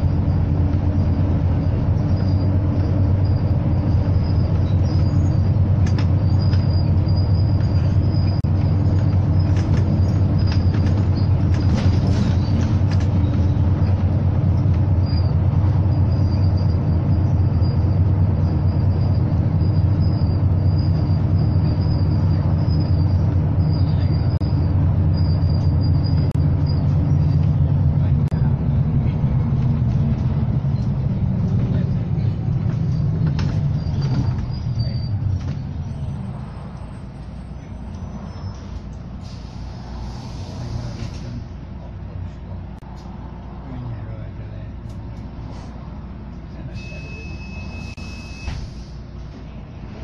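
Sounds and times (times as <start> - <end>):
bus engine droning: 0.0 - 50.0.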